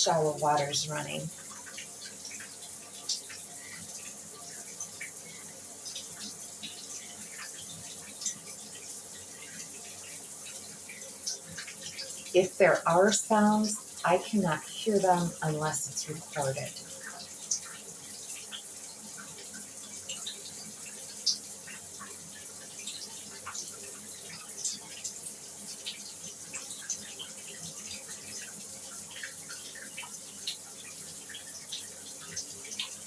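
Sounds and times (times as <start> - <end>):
water drips and splashes: 0.0 - 33.0.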